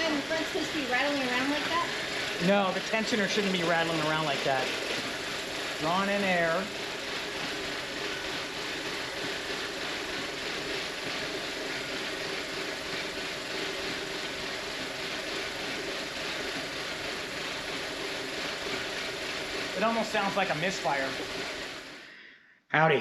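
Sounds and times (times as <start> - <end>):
tensioner rattling: 0.0 - 22.1
car engine idling roughly: 0.0 - 22.2.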